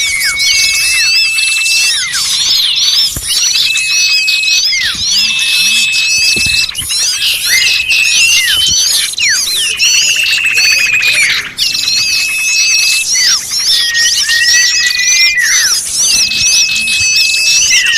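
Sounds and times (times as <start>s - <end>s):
chorus of small songbirds: 0.0s - 17.9s.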